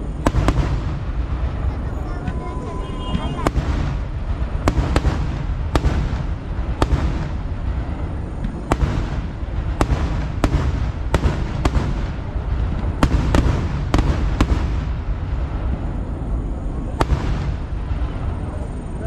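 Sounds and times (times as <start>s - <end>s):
fireworks crackling rumble: 0.0s - 19.0s
fireworks sharp bangs: 0.0s - 19.0s.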